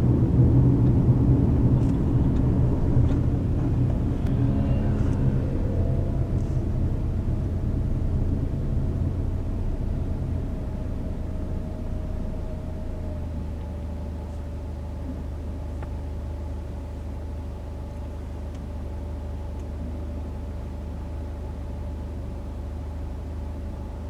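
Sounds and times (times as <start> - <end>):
tyres and engine rumbling: 0.0 - 20.0.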